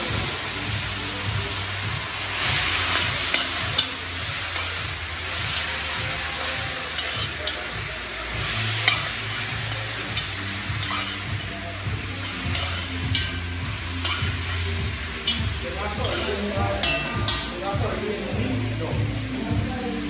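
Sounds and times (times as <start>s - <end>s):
food sizzling in a pot: 0.0s - 20.0s.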